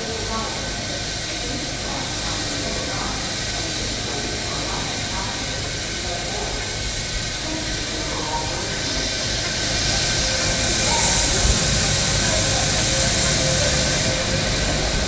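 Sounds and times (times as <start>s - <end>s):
people mover hiss and rumble: 0.0s - 15.0s.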